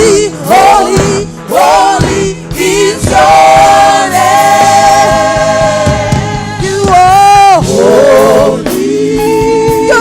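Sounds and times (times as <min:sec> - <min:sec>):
choir singing: 0:00.0 - 0:10.0
instrumental backing: 0:00.0 - 0:10.0.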